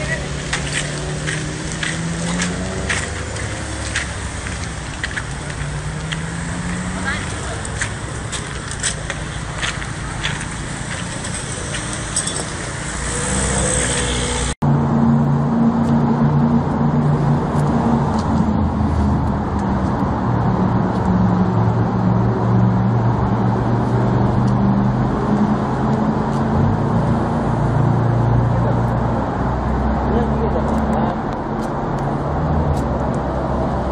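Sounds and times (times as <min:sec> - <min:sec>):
street traffic: 0:00.0 - 0:33.9.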